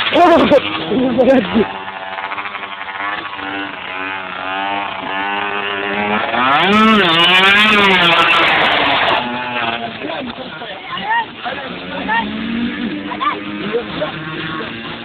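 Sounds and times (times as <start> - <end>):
small engine running and revving: 0.0 - 15.0.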